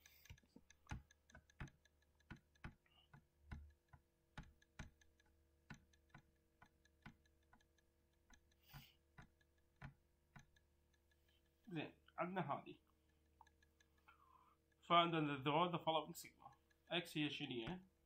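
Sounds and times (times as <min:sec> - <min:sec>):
computer mouse clicks: 0:00.0 - 0:15.1, 0:15.7 - 0:18.0.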